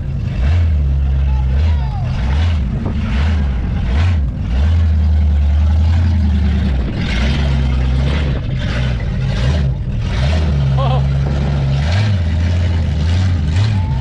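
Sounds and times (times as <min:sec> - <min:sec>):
car and truck engines passing: 0:00.0 - 0:14.0.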